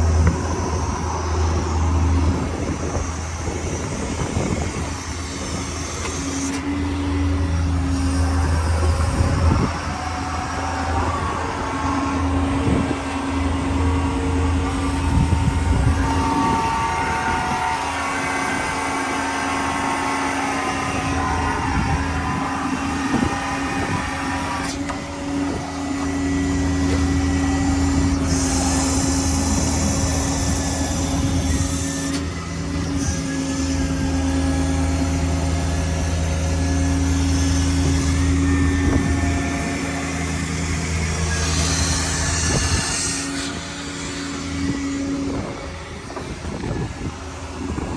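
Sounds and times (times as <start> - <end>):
diesel truck engine hum: 0.0 - 47.9.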